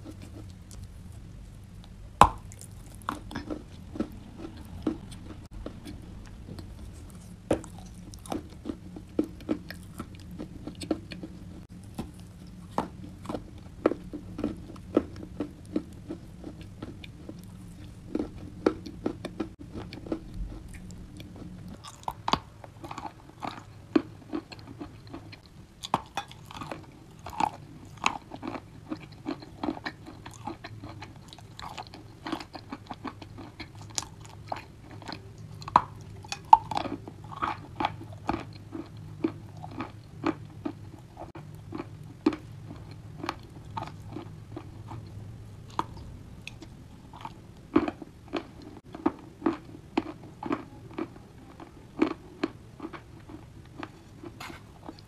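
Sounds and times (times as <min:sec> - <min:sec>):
crunching while chewing: 0:00.0 - 0:55.0
soft chewing: 0:00.0 - 0:55.0.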